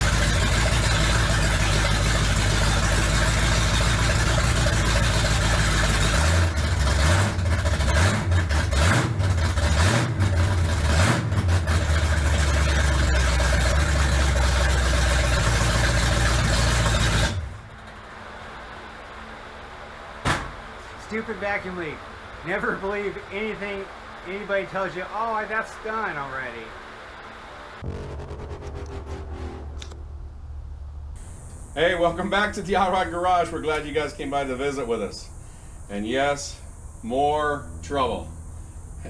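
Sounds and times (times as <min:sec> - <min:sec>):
engine idling with throttle blips: 0:00.0 - 0:20.2, 0:27.8 - 0:39.0.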